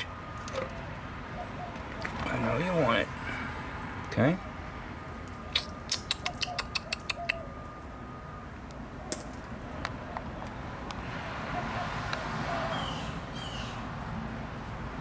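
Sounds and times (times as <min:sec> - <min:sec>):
car passing: 0:00.0 - 0:06.3, 0:07.4 - 0:15.0.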